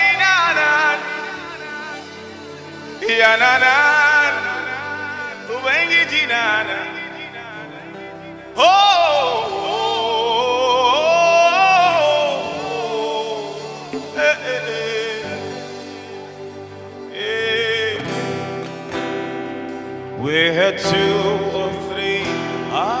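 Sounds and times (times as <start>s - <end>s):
held vocal melody with vibrato: 0.0s - 18.6s.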